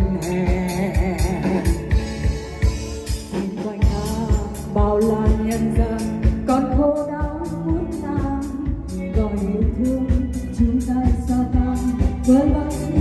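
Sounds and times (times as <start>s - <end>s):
woman singing: 0.0s - 2.1s, 3.3s - 13.0s
band with steady drum beat: 0.0s - 13.0s.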